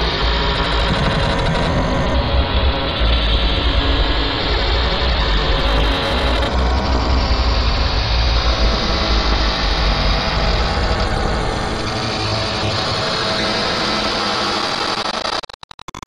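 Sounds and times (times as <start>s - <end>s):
distorted electronic noise: 0.0s - 16.0s.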